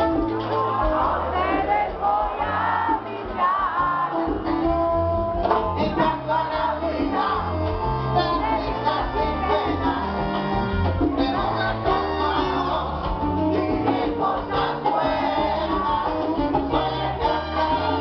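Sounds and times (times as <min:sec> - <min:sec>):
congas: 0:00.0 - 0:18.0
salsa band playing: 0:00.0 - 0:18.0
man singing into a microphone: 0:02.2 - 0:18.0.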